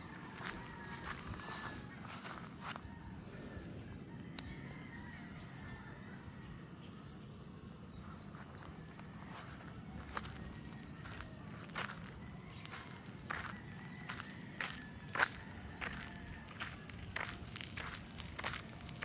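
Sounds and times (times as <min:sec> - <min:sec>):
insects singing drone: 0:00.0 - 0:19.0.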